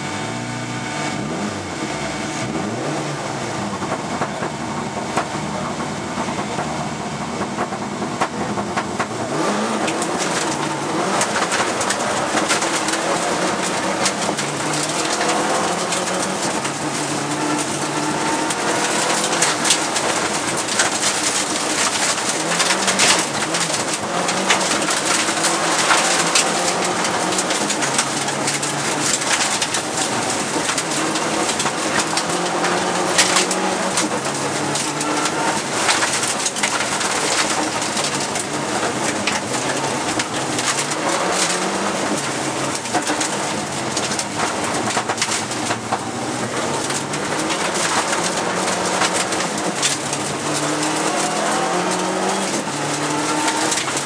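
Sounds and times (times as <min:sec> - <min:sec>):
car engine accelerating through gears: 0:00.0 - 0:54.0
gravel rattling against car underside: 0:01.2 - 0:54.0.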